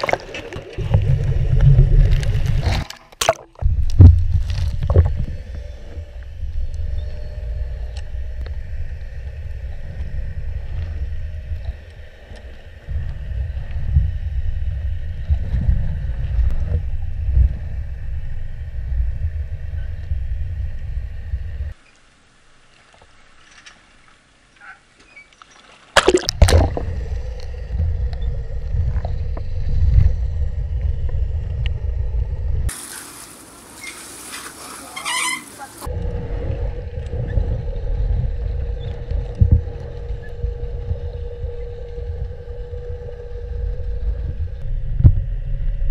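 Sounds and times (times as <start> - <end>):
water churning underwater: 0.0 - 24.6, 25.8 - 45.9.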